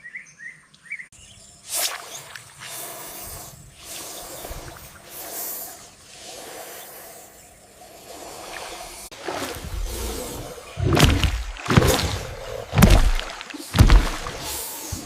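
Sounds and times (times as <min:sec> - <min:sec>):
reptile hissing: 0:01.7 - 0:15.0.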